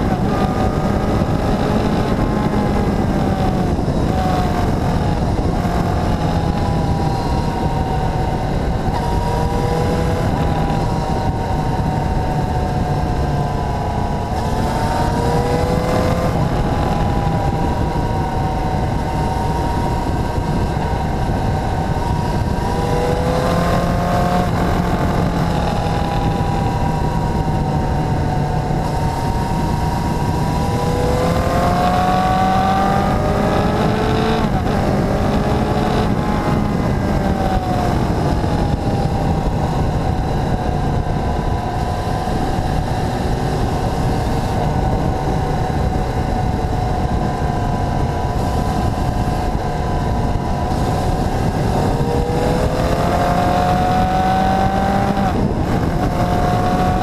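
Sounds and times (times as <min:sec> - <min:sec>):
motorcycle engine revving: 0:00.0 - 0:57.0
steady rush of noise: 0:00.0 - 0:57.0.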